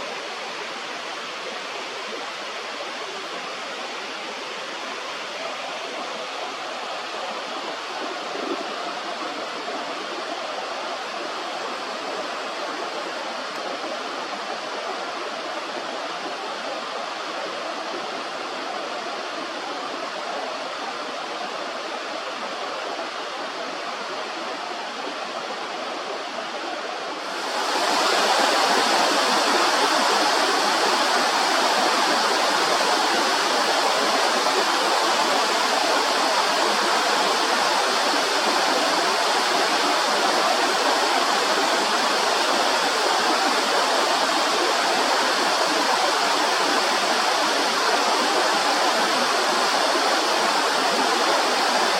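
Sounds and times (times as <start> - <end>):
rushing stream water: 0.0 - 51.9.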